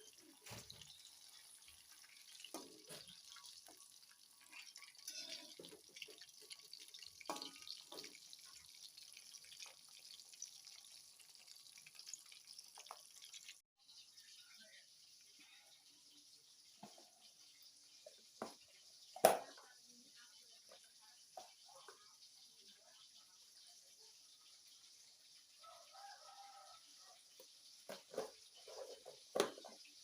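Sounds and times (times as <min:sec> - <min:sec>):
faint running water: 0:00.0 - 0:30.0
water drips and splashes: 0:00.0 - 0:30.0.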